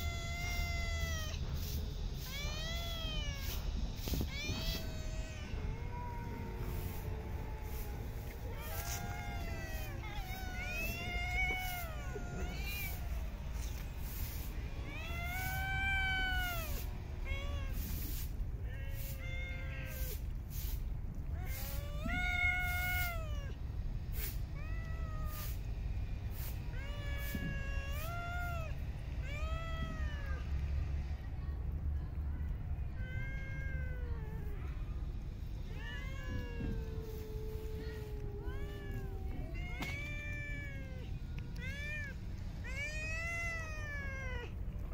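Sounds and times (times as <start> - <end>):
cats meowing: 0.0 - 31.3, 32.5 - 44.9.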